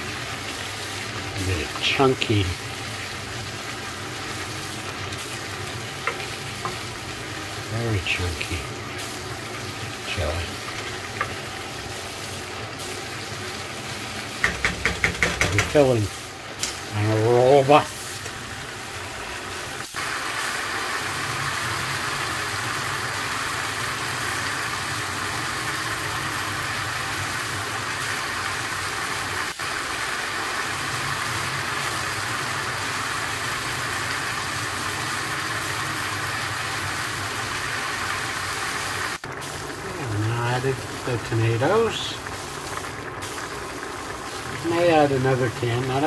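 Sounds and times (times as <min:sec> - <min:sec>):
food sizzling in a frying pan: 0:00.0 - 0:46.0.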